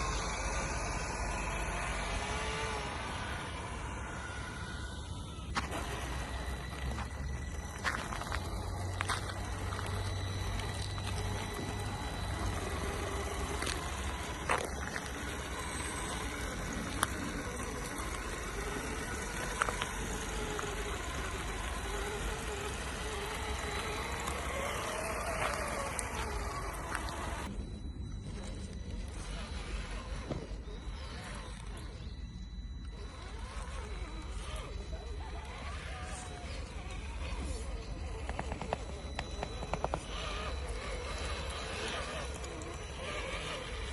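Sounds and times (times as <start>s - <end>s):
toy truck electric motor whining: 0.0s - 43.9s.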